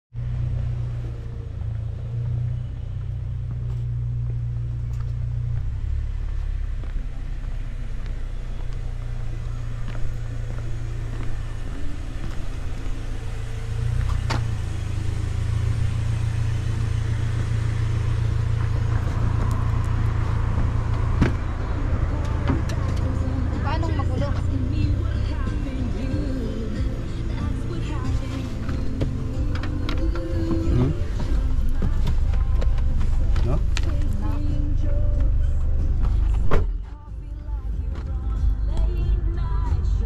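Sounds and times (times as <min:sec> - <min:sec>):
low rumble of car driving: 0:00.1 - 0:40.0.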